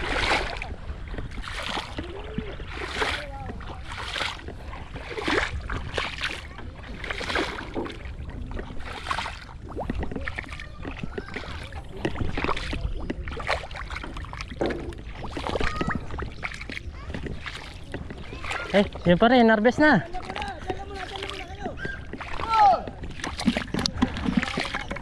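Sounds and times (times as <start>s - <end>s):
muddy water sloshing and splashing: 0.0s - 25.0s.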